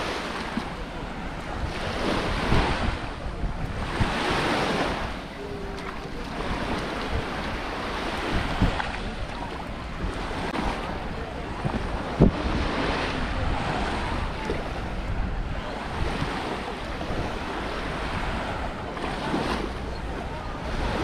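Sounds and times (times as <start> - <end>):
small waves washing on shore: 0.0 - 21.0
wind on microphone: 0.0 - 21.0.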